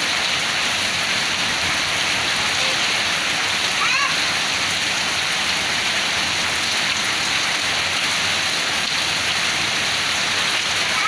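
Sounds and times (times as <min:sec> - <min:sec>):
rain and hail falling: 0:00.0 - 0:11.0.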